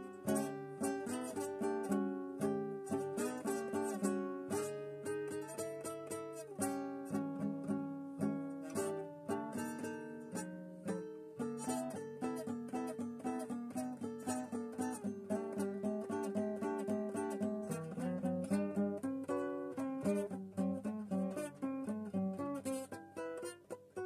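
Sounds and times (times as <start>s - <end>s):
plucked string instrument tune: 0.0s - 24.0s.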